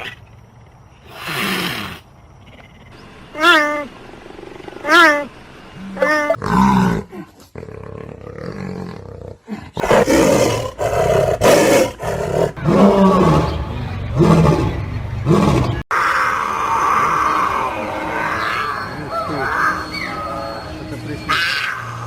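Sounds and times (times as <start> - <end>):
animal growling calls: 1.0 - 22.0.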